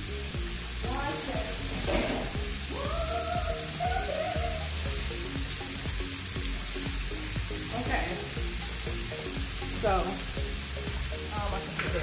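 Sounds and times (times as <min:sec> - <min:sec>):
green beans frying: 0:00.0 - 0:12.0
steak sizzling in a pan: 0:00.0 - 0:12.0.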